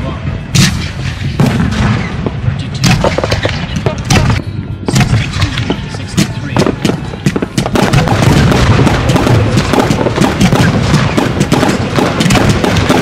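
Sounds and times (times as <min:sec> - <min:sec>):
fireworks bangs: 0:00.6 - 0:13.0.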